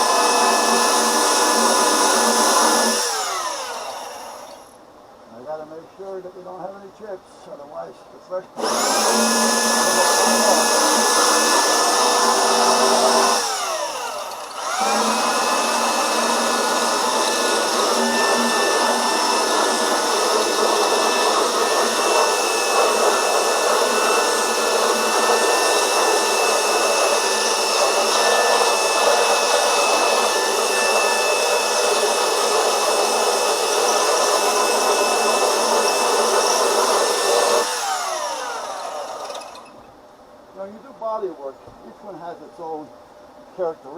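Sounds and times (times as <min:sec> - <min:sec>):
power sander running: 0:00.0 - 0:04.7, 0:08.6 - 0:39.8.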